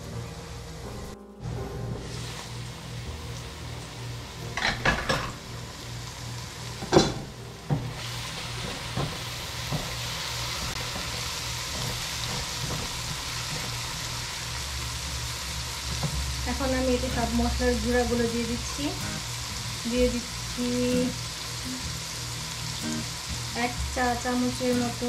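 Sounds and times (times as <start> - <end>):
food sizzling in oil: 2.0 - 25.0.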